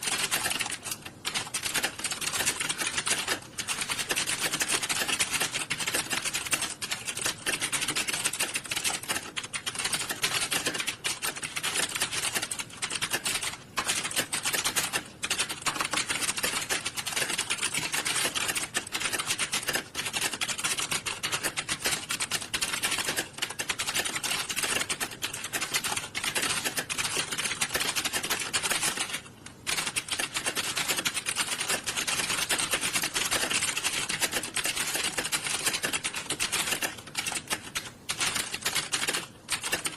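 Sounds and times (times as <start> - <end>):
keyboards clattering: 0.0 - 39.9.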